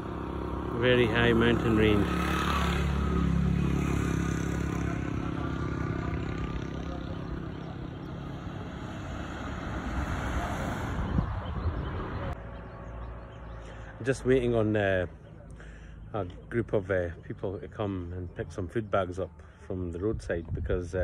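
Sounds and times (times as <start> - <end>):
vehicle engine humming: 0.0 - 19.6.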